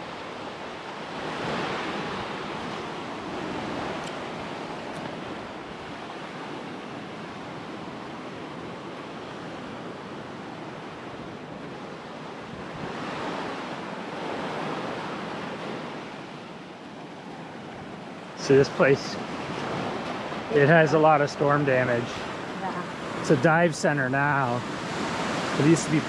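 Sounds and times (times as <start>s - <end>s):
ocean surf breaking on beach: 0.0s - 26.0s.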